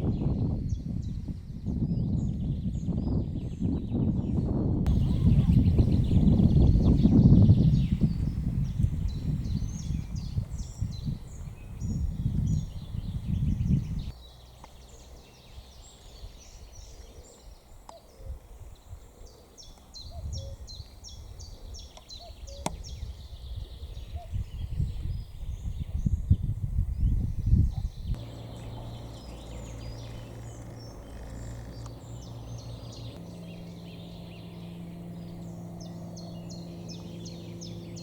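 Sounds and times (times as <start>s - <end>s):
wind buffeting microphone: 0.0s - 14.2s, 20.0s - 38.0s
small birds chirping: 0.0s - 38.0s.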